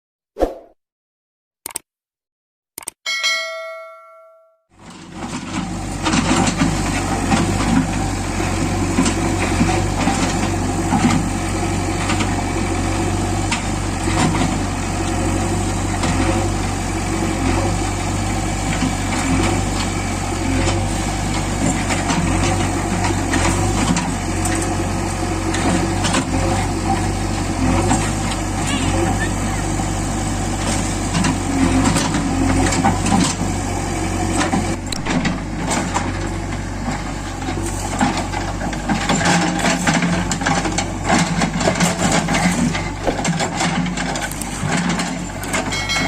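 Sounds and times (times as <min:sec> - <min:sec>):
diesel engine running: 0:04.8 - 0:46.0.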